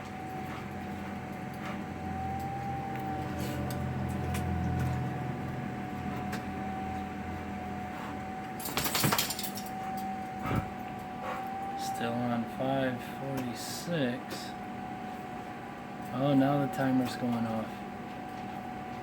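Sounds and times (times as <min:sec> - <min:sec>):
microwave humming: 0:00.0 - 0:19.0.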